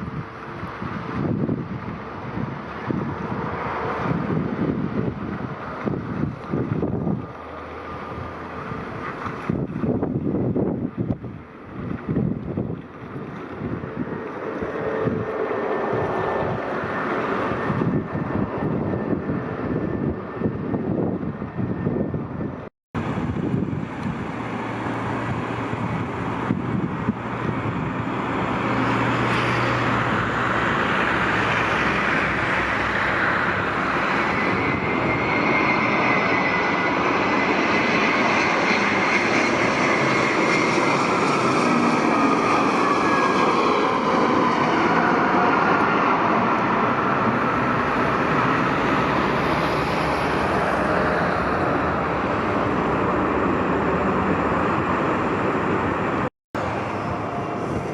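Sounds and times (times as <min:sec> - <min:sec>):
airplane engines passing: 0:00.0 - 0:57.9.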